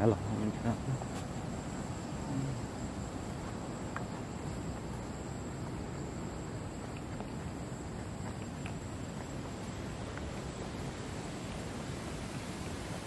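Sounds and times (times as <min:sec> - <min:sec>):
background hiss: 0:00.0 - 0:13.0
insects high-pitched whine: 0:00.0 - 0:13.0.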